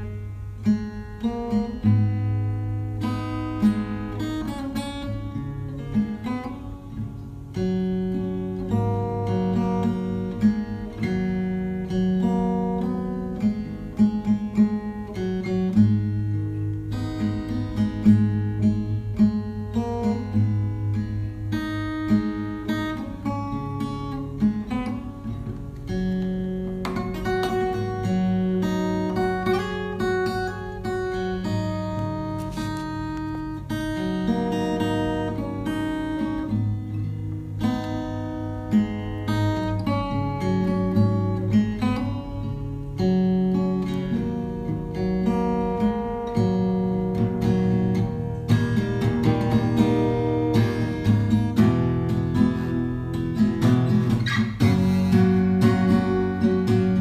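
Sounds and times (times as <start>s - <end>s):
acoustic guitar music: 0.0s - 57.0s.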